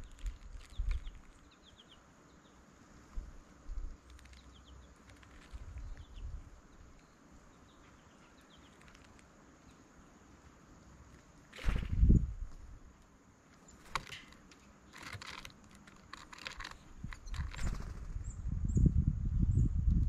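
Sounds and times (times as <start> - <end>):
small birds chipping: 0.0 - 20.0.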